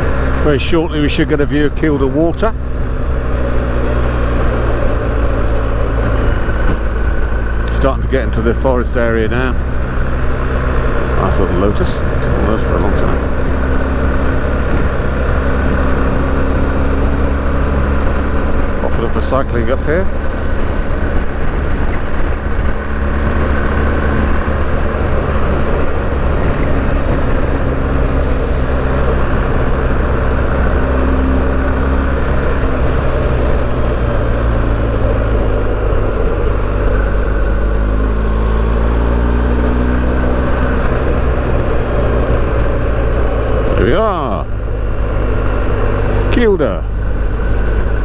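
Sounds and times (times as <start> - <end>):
motorcycle engine cruising: 0.0 - 48.0
wind and road noise: 0.0 - 48.0.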